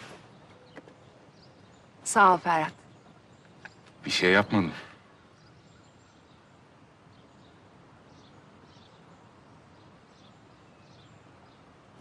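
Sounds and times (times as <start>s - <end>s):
distant bird chirps: 0.0s - 12.0s.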